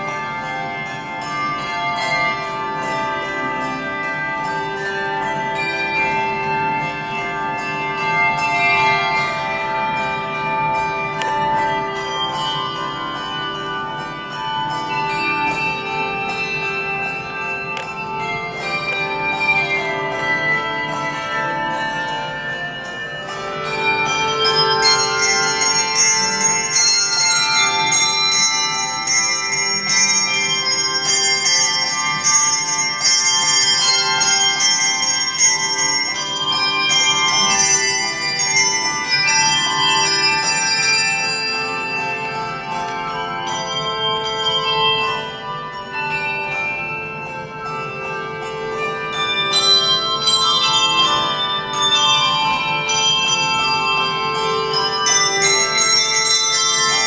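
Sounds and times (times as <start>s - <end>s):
handbell choir playing: 0.0s - 57.0s.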